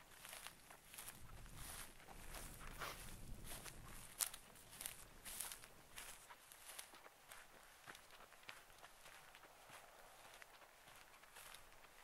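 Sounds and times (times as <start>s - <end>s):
faint footsteps walking: 0.0s - 12.0s.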